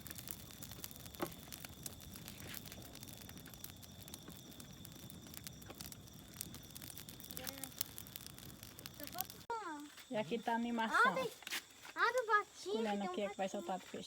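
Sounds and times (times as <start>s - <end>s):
bonfire crackling and popping: 0.0s - 13.3s
crickets chirping: 0.0s - 14.0s.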